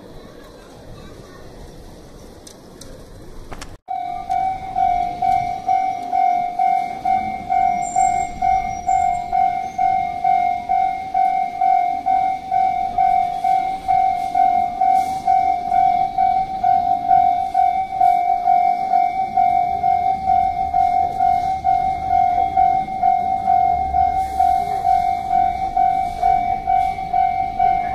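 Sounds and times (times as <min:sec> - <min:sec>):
quiet street noise: 0:00.0 - 0:27.9
level-crossing warning bell: 0:03.9 - 0:27.9.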